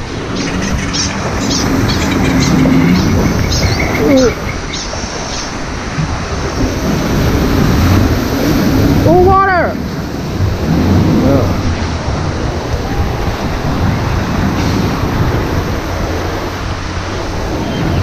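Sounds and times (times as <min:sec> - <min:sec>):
water rushing and churning: 0:00.0 - 0:18.0.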